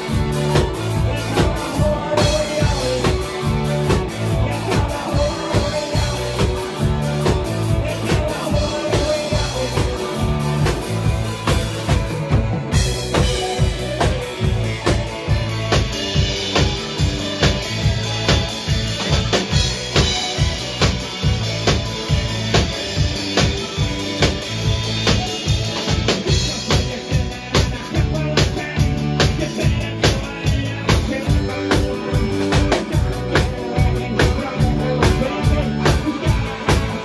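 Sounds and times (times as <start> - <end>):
accordion playing a tune: 0.0 - 37.0
drum kit beat: 0.0 - 37.0.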